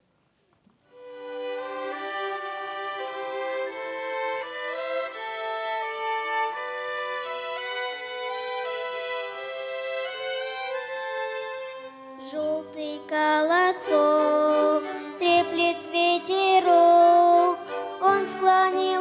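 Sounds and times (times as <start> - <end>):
violin ensemble playing slow melody: 0.9 - 19.0.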